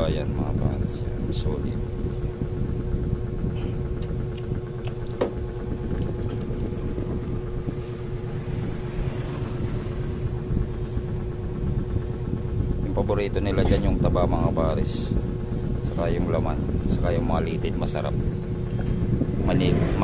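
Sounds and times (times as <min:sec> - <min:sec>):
constant hum: 0:00.0 - 0:20.0
low mechanical rumble: 0:00.0 - 0:20.0.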